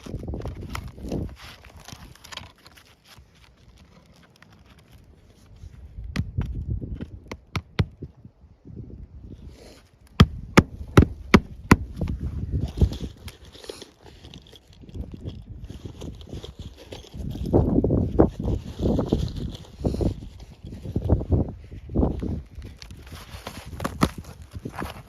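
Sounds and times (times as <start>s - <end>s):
scraping and shuffling on shingles: 0.0s - 7.5s, 9.3s - 25.0s.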